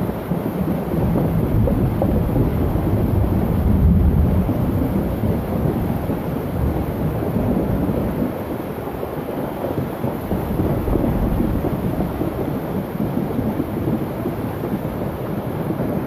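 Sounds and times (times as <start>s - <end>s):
thunder rumbling: 0.0s - 9.0s, 9.8s - 16.0s.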